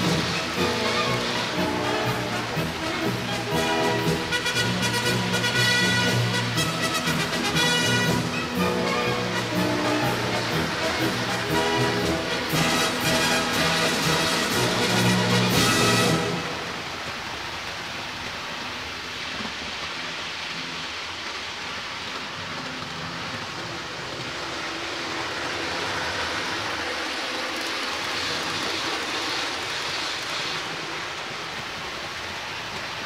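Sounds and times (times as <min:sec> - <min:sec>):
model train rattling hiss: 0:00.0 - 0:33.0.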